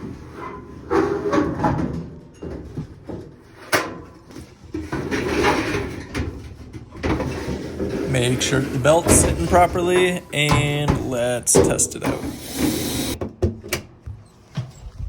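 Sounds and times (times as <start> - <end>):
dryer parts scraping and rubbing: 0.0 - 13.2.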